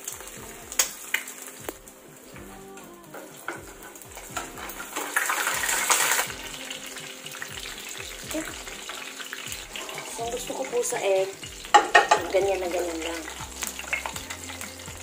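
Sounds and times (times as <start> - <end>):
egg sizzling in hot oil: 0.0 - 15.0.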